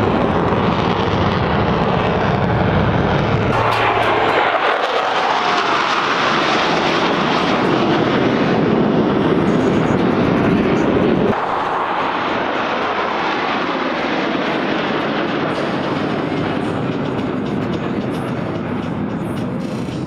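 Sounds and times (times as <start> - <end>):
fighter jets roaring overhead: 0.0 - 20.0.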